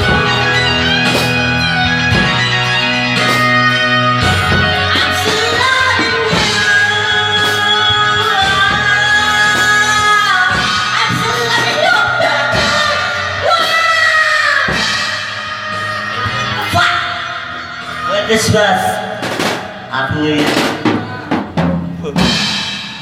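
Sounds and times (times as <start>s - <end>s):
band accompaniment: 0.0s - 23.0s.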